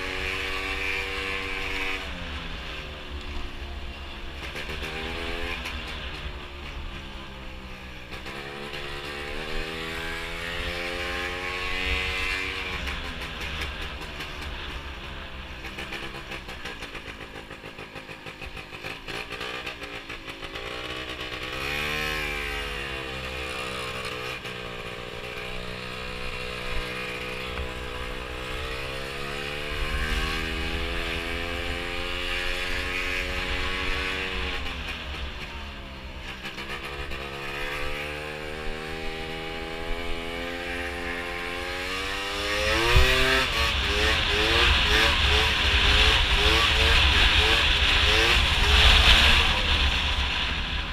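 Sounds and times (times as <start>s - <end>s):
scooter engine revving: 4.1s - 50.9s.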